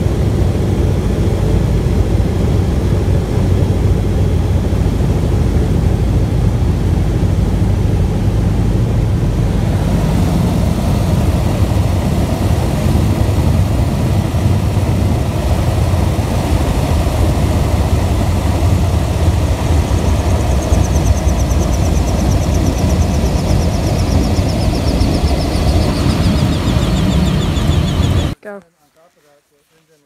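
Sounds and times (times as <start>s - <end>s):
plane engine drone: 0.0s - 28.4s.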